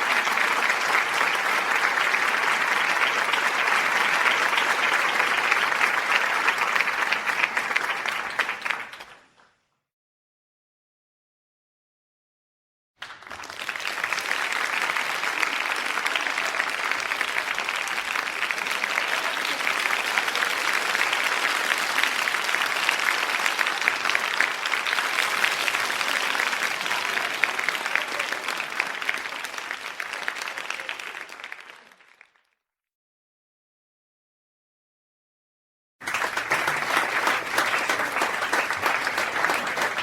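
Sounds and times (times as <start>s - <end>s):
crowd applauding: 0.0s - 9.6s, 13.0s - 32.5s, 36.0s - 40.0s.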